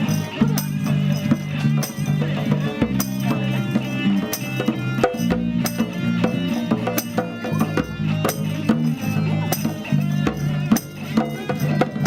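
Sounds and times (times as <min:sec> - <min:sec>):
live music with percussion: 0:00.0 - 0:12.0.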